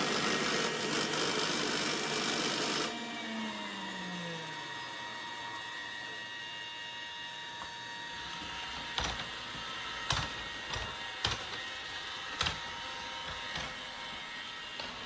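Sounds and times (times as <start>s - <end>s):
robot vacuum motor whine: 0.0s - 15.0s.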